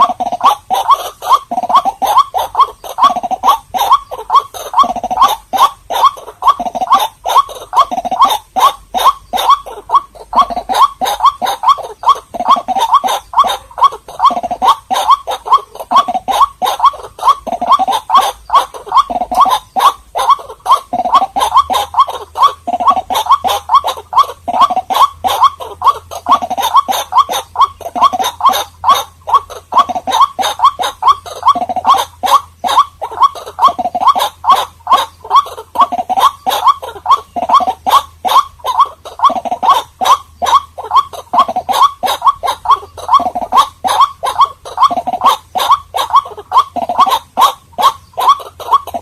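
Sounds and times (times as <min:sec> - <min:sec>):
waterhen croaking calls: 0:00.0 - 0:49.0.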